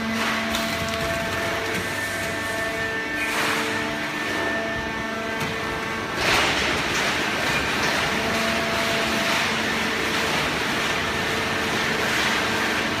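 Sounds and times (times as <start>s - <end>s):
hydraulic press motor running: 0.0s - 13.0s.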